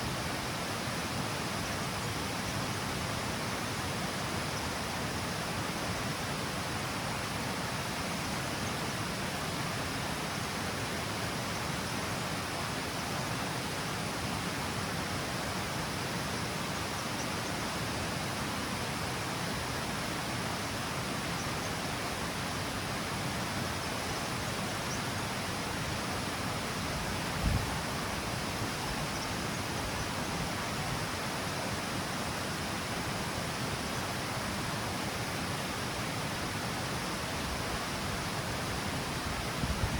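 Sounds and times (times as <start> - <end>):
water rushing down a cascade: 0.0 - 39.9.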